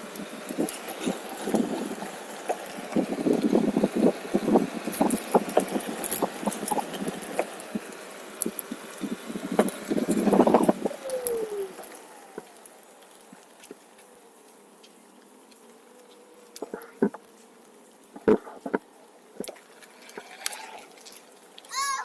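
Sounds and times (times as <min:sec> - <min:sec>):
electric board tyre noise on trail: 0:00.0 - 0:22.0.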